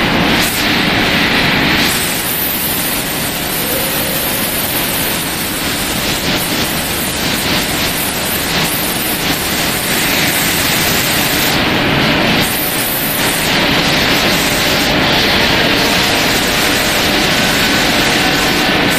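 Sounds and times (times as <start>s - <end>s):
factory machinery rushing noise: 0.0s - 18.9s.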